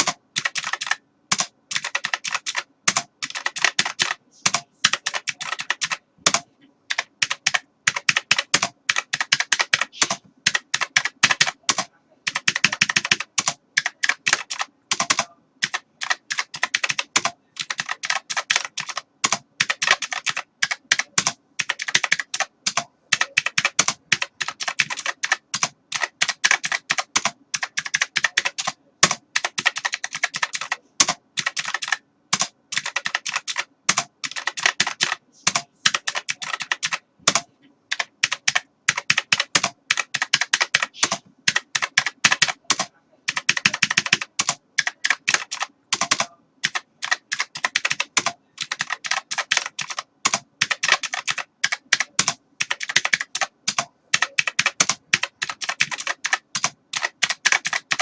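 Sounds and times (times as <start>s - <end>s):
computer keyboard typing: 0.0s - 58.0s.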